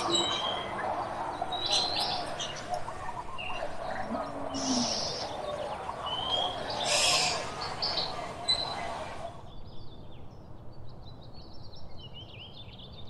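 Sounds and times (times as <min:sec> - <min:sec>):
birds chirping and twittering: 0:00.0 - 0:13.0
low chatter of bird calls: 0:00.0 - 0:13.0.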